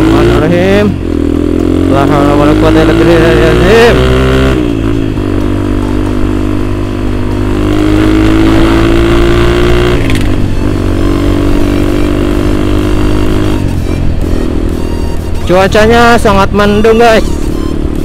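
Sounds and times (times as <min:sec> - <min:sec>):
motorcycle engine while riding: 0:00.0 - 0:18.0.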